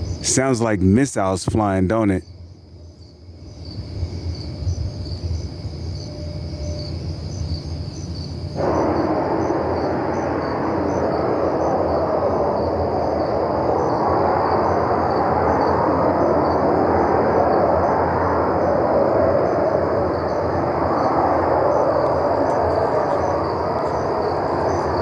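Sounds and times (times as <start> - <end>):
crickets chirping: 0.0 - 25.0
low roaring rumble from sky: 3.9 - 25.0.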